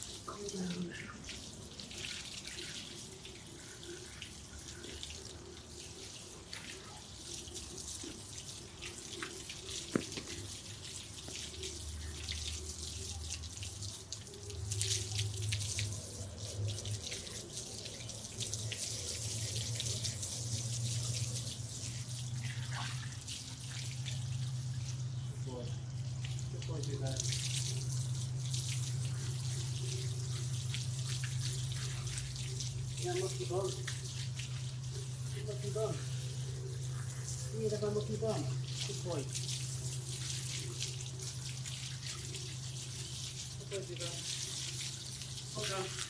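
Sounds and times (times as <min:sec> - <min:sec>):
low steady hum: 0:00.0 - 0:46.0
water splashing on dog's coat: 0:00.0 - 0:46.0.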